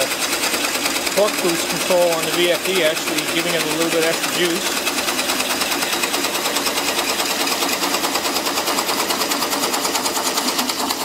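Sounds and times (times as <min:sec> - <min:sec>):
drill bit chattering in wood: 0:00.0 - 0:11.0.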